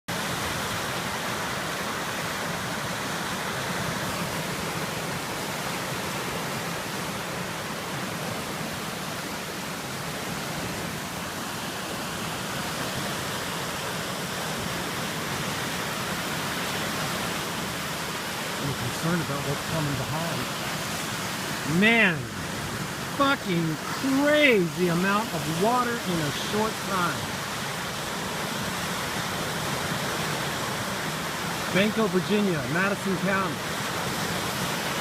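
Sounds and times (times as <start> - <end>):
river rushing roar: 0.1 - 35.0.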